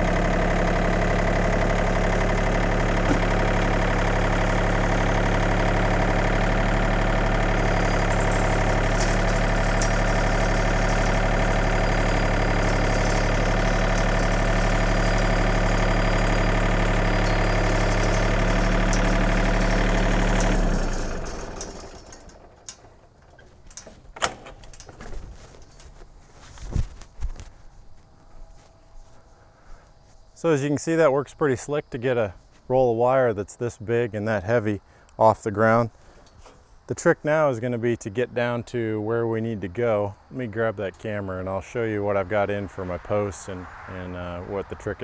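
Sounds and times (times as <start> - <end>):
diesel tractor engine running: 0.0 - 45.0.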